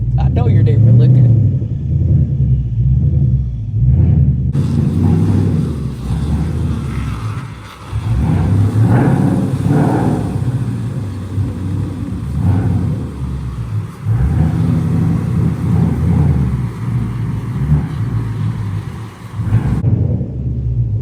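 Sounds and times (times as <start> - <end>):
loud car engine revving: 0.0 - 21.0.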